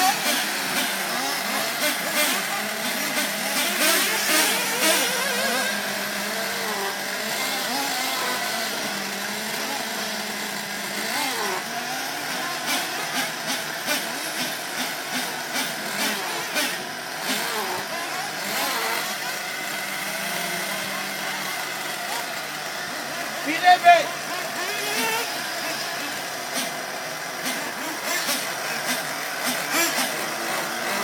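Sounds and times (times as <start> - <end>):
model car nitro engine running: 0.0 - 31.0.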